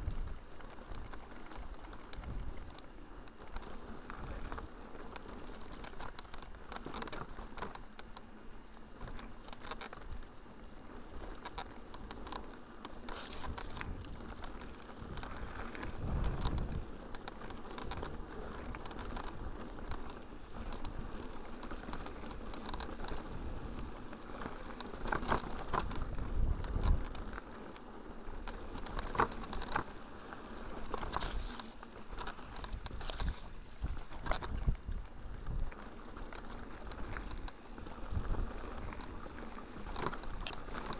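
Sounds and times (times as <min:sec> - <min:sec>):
bike clicks and rattles: 0:00.0 - 0:40.9
bike tyres rolling over stones: 0:00.0 - 0:40.9.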